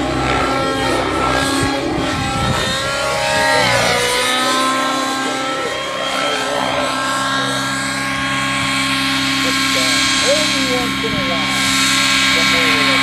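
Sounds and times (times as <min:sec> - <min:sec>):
rc helicopter high whine: 0:00.0 - 0:13.0.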